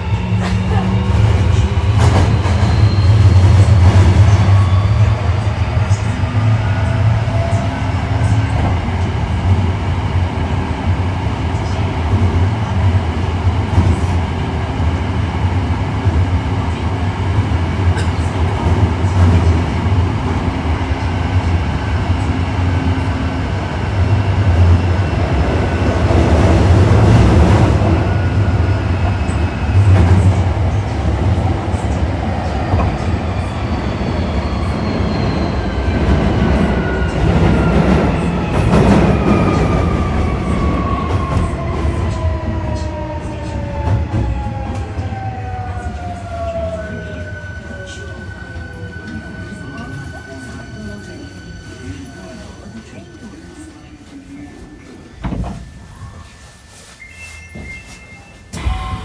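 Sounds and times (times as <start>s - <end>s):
train wheels rumbling on track: 0.0s - 56.7s.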